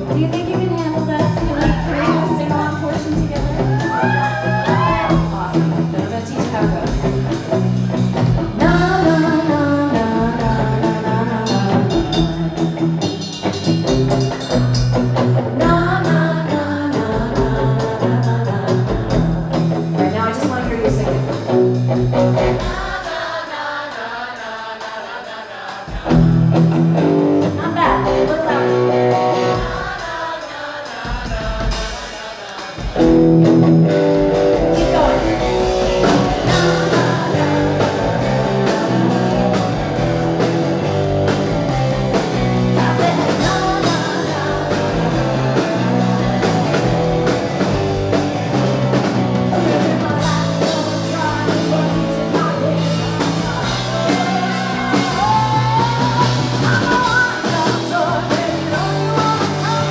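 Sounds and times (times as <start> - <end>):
woman singing lead: 0.0 - 7.5, 8.4 - 13.4, 14.2 - 41.5, 42.1 - 59.9
electric guitars: 0.0 - 23.4, 25.9 - 30.4, 31.1 - 59.9
drums: 0.0 - 59.9.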